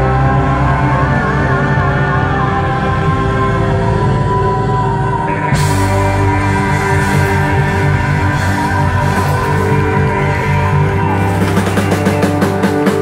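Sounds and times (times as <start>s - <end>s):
live country rock band: 0.0s - 13.0s.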